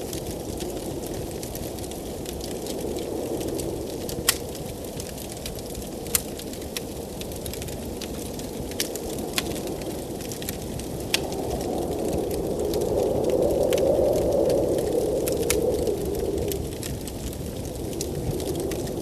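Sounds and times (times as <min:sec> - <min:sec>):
blizzard wind blowing: 0:00.0 - 0:19.0
fire popping: 0:00.0 - 0:19.0
wood fire crackling: 0:00.0 - 0:19.0.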